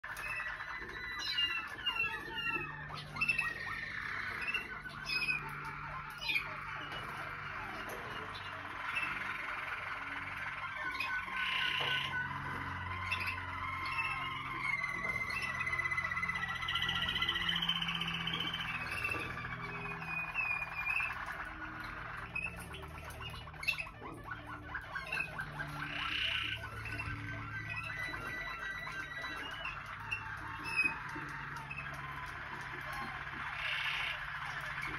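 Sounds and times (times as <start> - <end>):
canaries singing trills: 0.0 - 34.9.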